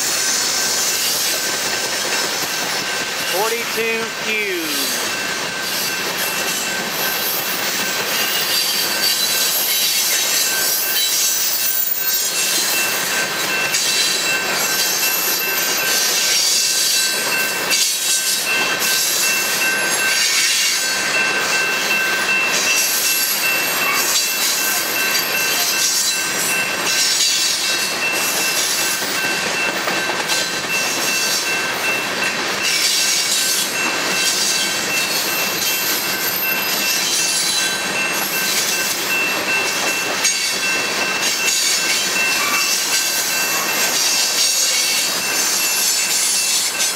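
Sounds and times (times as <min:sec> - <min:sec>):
train wheels rolling on rails: 0:00.0 - 0:03.8, 0:04.5 - 0:46.9.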